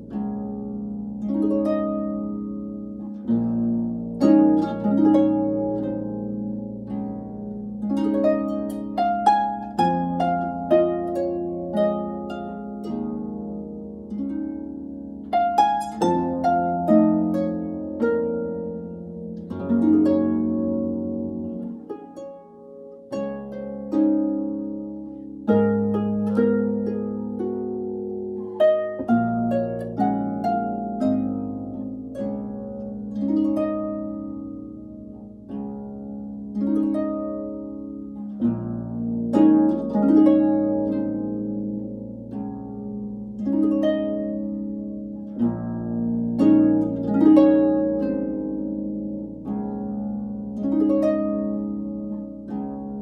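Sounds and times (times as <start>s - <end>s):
solo harp playing: 0.0s - 53.0s.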